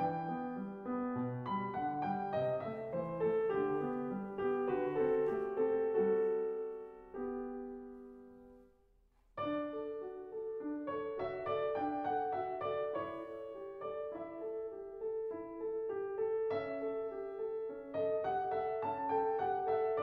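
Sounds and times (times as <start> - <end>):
slow classical piano piece: 0.0 - 20.0.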